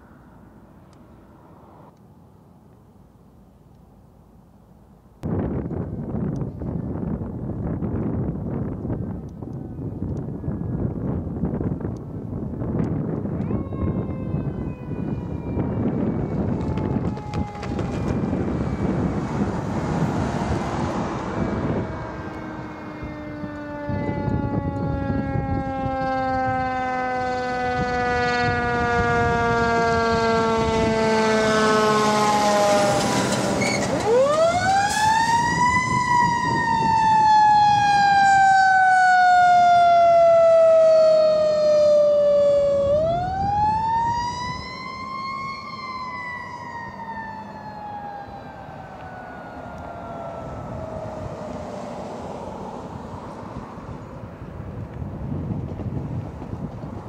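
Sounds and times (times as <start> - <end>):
truck engine rumbling: 0.0 - 57.0
fire engine siren wailing: 8.9 - 57.0.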